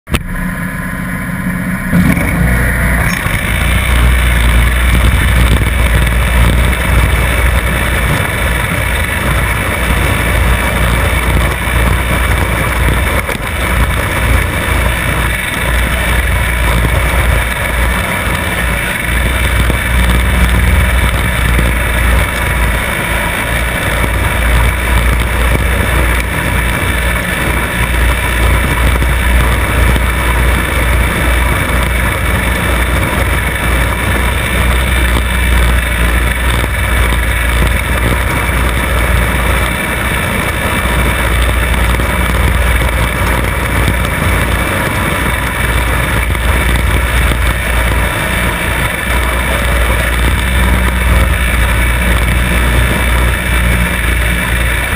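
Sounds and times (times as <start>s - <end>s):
riding mower engine rumbling: 0.0s - 54.9s.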